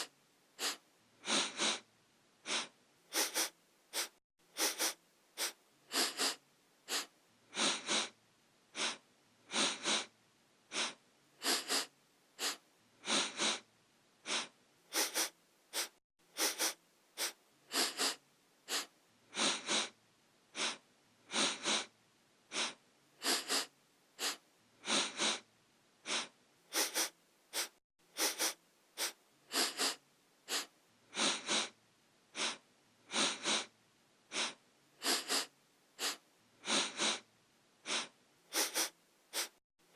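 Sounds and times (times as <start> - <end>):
person sniffing: 0.0 - 10.1, 10.7 - 21.9, 22.5 - 39.6.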